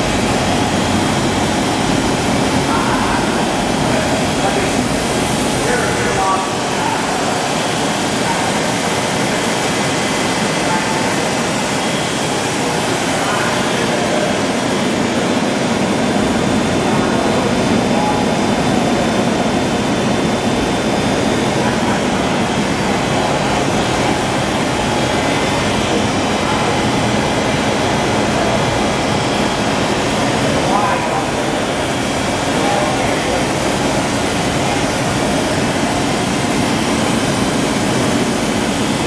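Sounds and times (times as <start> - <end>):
grinding machine running: 0.0 - 39.0.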